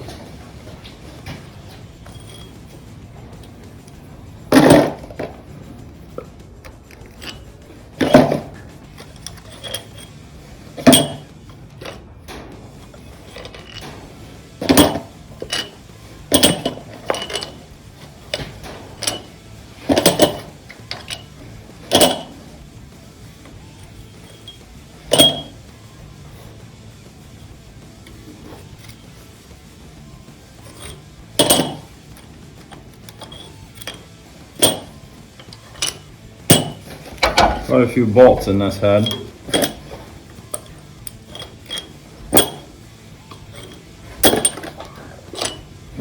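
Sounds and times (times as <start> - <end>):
metallic clanks of hand tools: 0.0 - 5.5, 6.1 - 22.7, 23.3 - 25.6, 27.4 - 29.5, 30.2 - 46.0.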